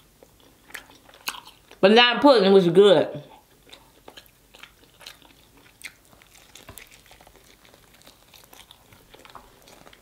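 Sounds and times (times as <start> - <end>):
person chewing meat: 0.0 - 1.8, 3.3 - 10.0
wet chewing clicks and smacks: 0.2 - 1.8, 3.4 - 10.0.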